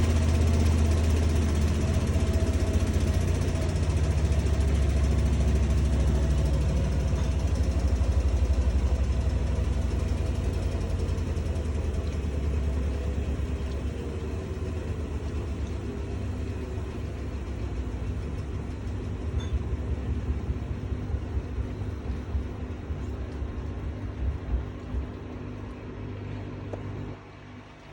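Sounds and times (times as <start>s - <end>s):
washing machine rumbling and churning: 0.0s - 27.9s.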